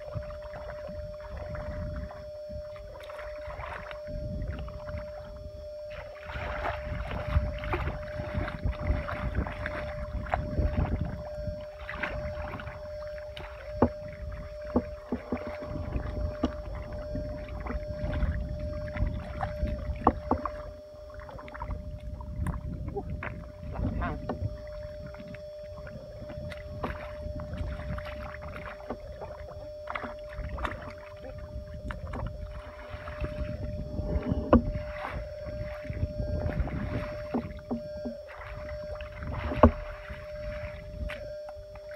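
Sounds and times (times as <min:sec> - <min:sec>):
faint steady hum: 0:00.0 - 0:41.9
wading through mud: 0:00.0 - 0:41.9.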